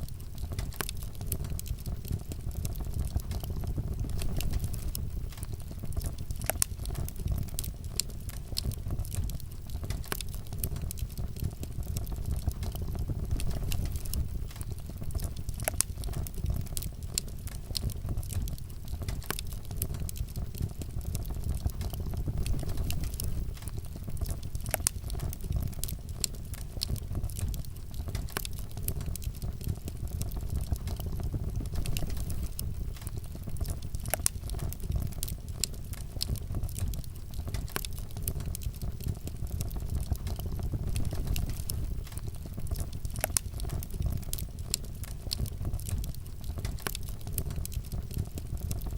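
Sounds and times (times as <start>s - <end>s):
fire crackling in a fireplace: 0.0s - 48.9s.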